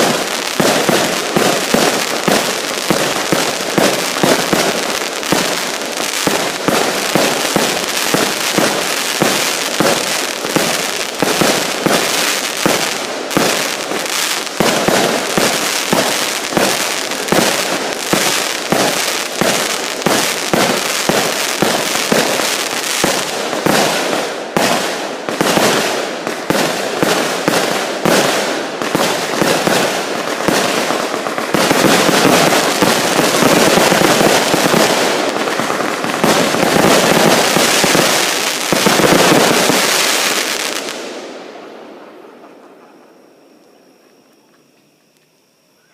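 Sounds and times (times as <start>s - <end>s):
fireworks bangs and crackles: 0.0s - 43.5s.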